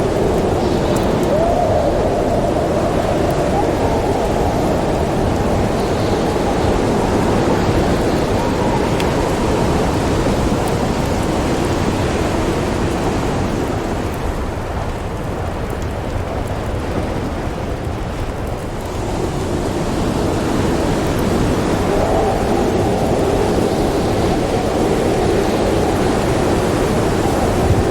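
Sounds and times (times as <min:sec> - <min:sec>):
storm wind: 0:00.0 - 0:27.9.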